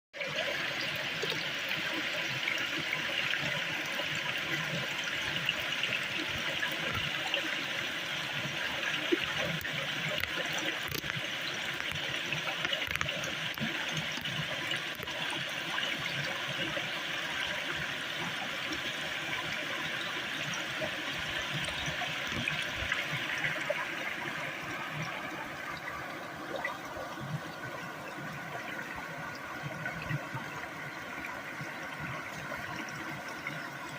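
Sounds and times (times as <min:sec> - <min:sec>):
stream water rushing: 0:00.2 - 0:33.9.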